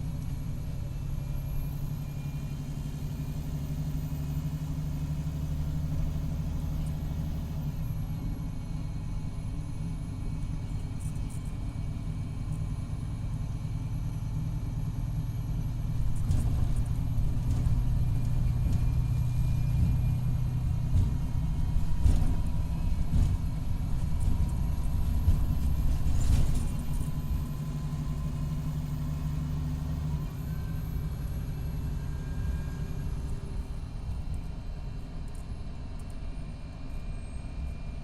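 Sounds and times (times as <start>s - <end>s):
diesel engine low rumble: 0.0s - 38.0s
faint steady transmission whine: 0.0s - 38.0s.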